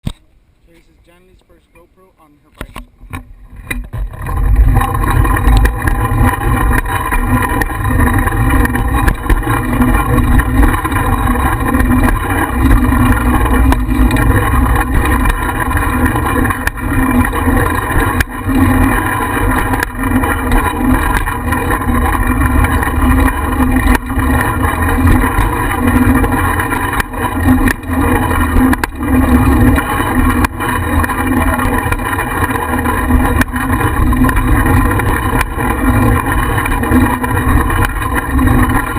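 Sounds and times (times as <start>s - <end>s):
bicycle knocks and rattles: 2.6s - 38.9s.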